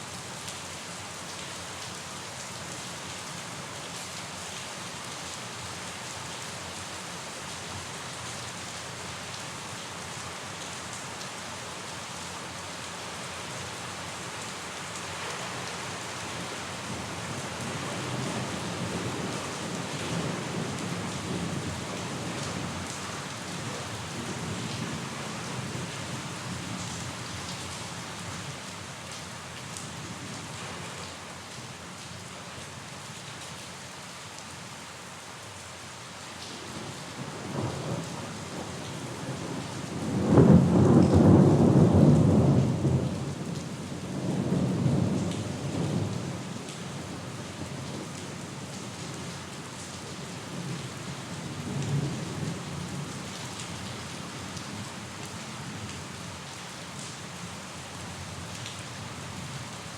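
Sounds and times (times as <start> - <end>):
rain hissing on a surface: 0.0 - 59.9.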